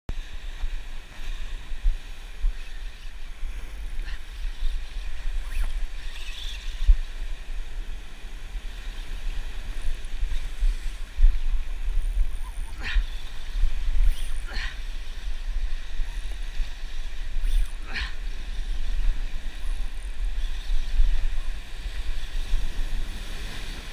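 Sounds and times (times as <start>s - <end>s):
wind buffeting microphone: 0.1s - 23.9s.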